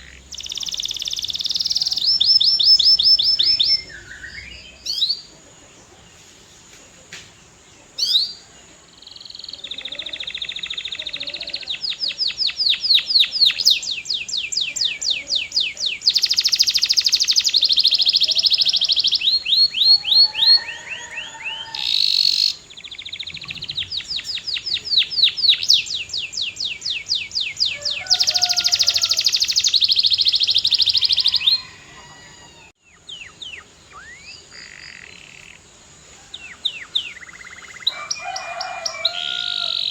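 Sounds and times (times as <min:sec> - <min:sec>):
canary singing trills: 0:00.0 - 0:06.0, 0:07.9 - 0:35.7, 0:36.3 - 0:39.9.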